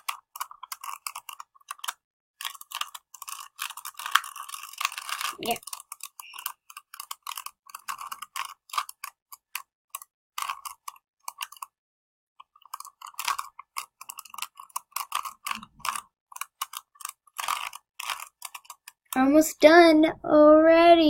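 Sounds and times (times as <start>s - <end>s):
puzzle cube layers clicking: 0.0s - 11.8s, 12.4s - 19.2s.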